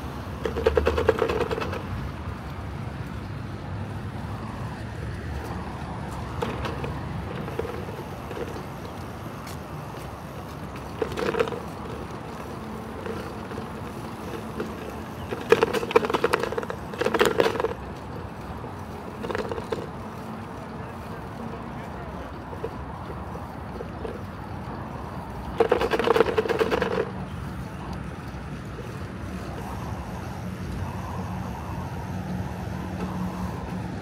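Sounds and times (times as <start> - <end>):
bicycle rattling: 0.0 - 34.0
bicycle tyres rumbling on asphalt: 0.0 - 34.0.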